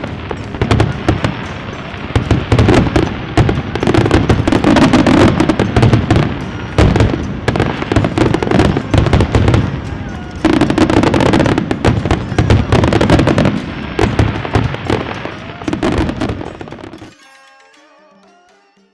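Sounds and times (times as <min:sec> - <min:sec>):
fireworks cracks and bangs: 0:00.0 - 0:17.1.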